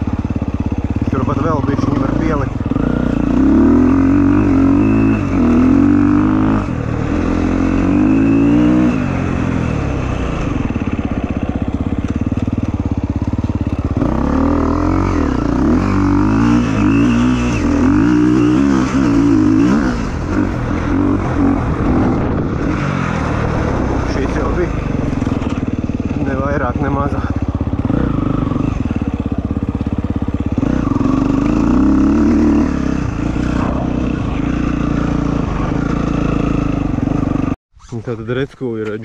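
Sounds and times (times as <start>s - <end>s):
motorcycle engine revving: 0.0s - 37.6s.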